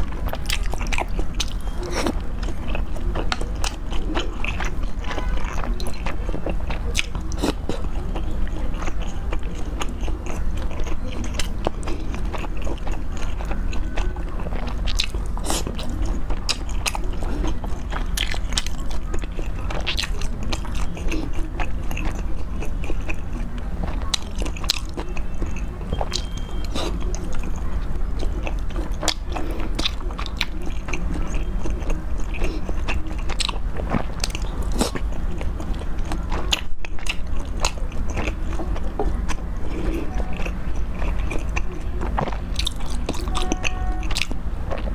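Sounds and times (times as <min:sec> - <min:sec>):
wet chewing and crunching: 0:00.0 - 0:44.9.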